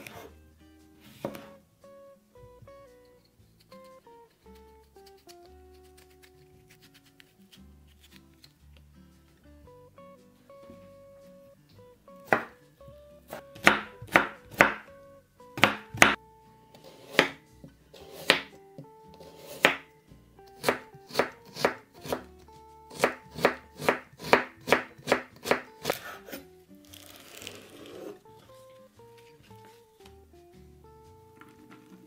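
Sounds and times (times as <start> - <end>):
soft guitar music: 0.0 - 32.0.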